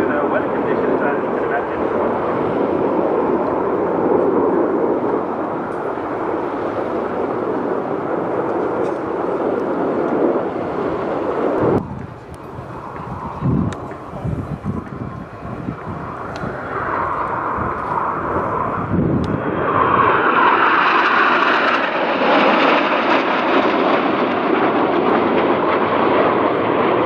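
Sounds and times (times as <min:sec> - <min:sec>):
jet fighters passing overhead: 0:00.0 - 0:27.0.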